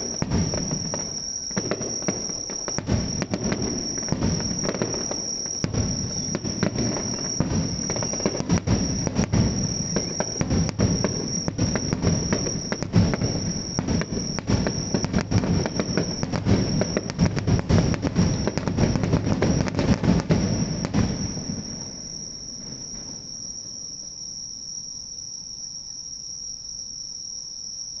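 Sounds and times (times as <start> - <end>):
fireworks bangs and crackles: 0.0 - 23.6
insects buzzing: 0.0 - 28.0.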